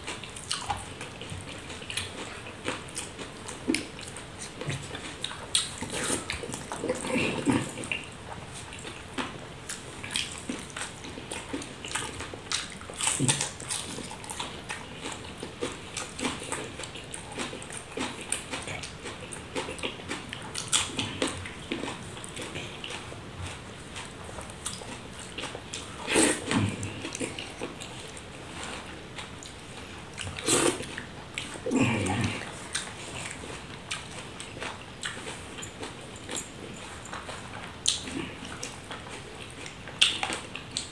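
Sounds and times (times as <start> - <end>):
chewing: 0.0 - 40.9.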